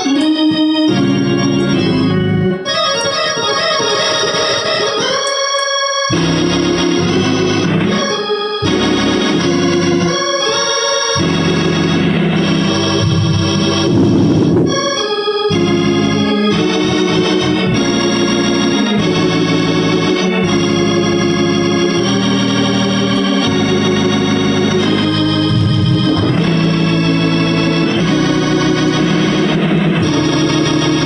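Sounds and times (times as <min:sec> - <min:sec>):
organ playing chords: 0:00.0 - 0:31.0.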